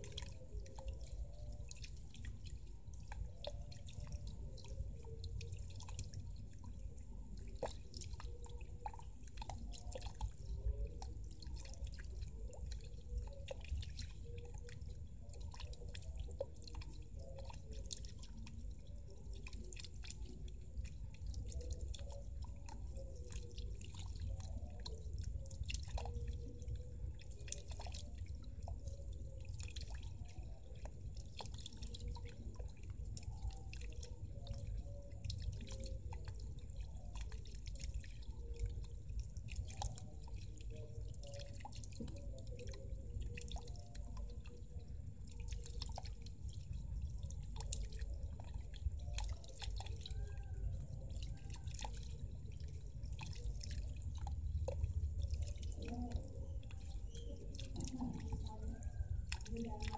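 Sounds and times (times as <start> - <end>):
fountain water splashing into pond: 0.0 - 59.9.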